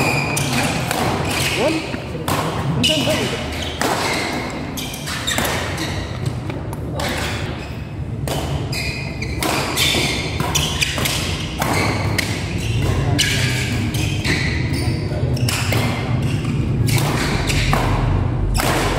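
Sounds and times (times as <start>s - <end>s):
racket hitting shuttlecock: 0.0s - 7.6s, 8.2s - 14.6s, 15.4s - 18.9s.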